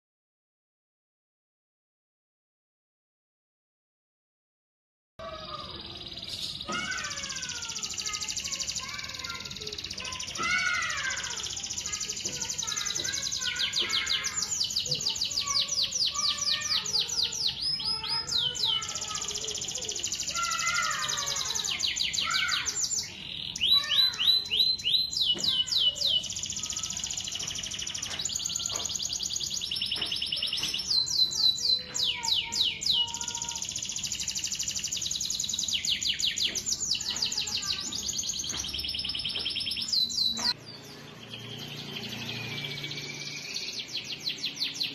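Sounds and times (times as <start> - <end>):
canary singing fast trills: 5.3 - 44.9.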